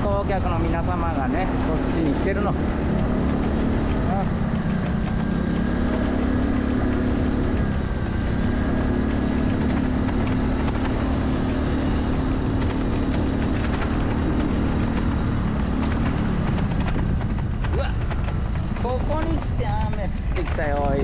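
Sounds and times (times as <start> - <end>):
road noise: 0.0 - 21.0
wind noise: 0.0 - 21.0.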